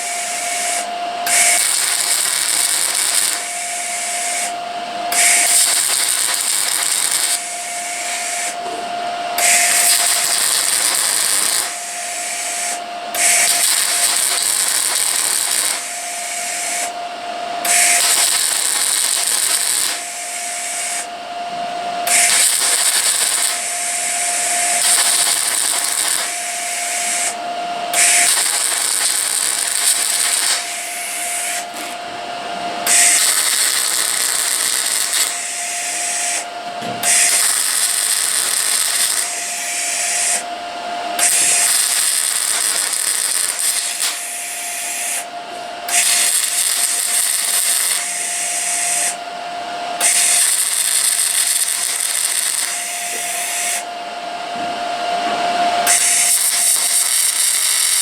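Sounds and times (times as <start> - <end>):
welding crackling hiss: 0.0 - 8.7, 9.4 - 17.0, 17.6 - 21.1, 22.0 - 32.0, 32.8 - 40.5, 41.2 - 45.3, 45.9 - 49.2, 50.0 - 53.9, 55.8 - 58.0
steady whine: 0.0 - 58.0.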